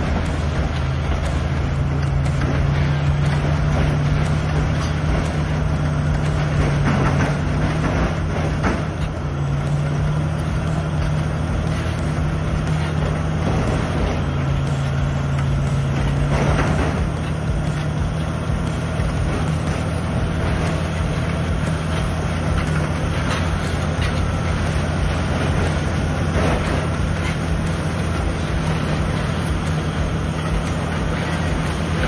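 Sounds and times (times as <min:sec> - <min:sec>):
bulldozer diesel engine droning: 0:00.0 - 0:32.0.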